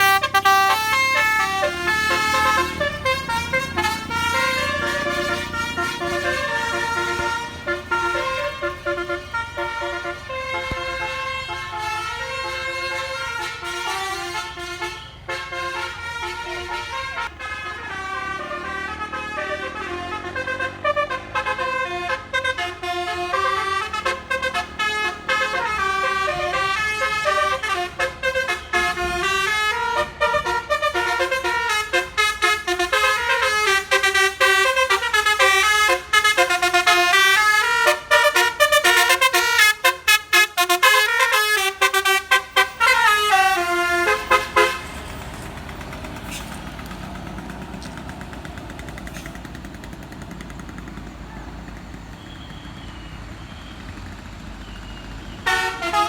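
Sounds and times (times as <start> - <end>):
musical air horn melody: 0.0 - 45.4, 55.4 - 56.0.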